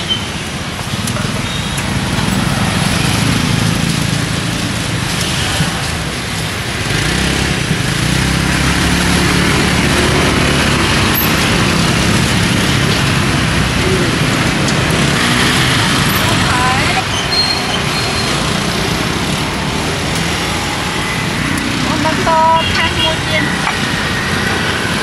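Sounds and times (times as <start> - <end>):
street traffic road noise: 0.0 - 25.0.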